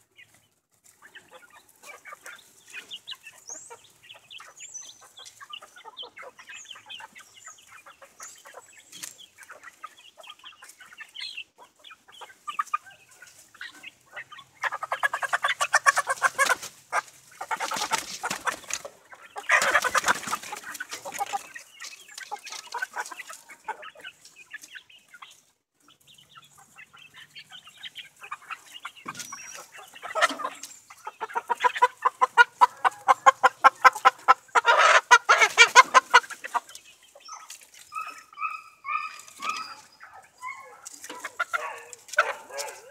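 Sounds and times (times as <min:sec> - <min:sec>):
chickens clucking and peeping: 0:00.0 - 0:42.9
chickens squawking: 0:00.0 - 0:42.9.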